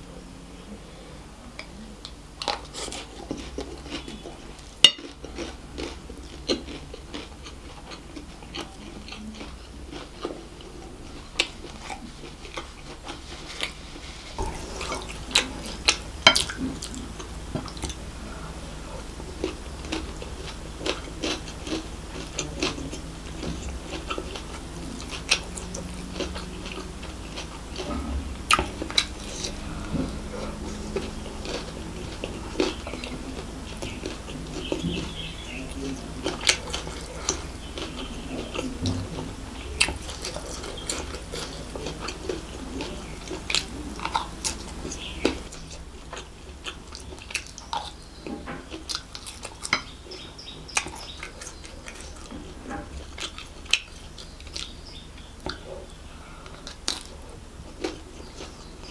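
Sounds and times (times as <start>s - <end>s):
wet chewing and mouth clicks: 1.6s - 58.9s.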